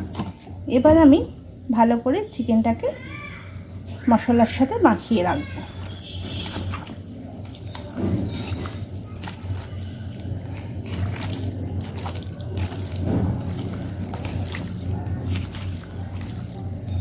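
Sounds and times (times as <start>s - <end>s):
wet squelches of kneading meat: 1.8s - 17.0s.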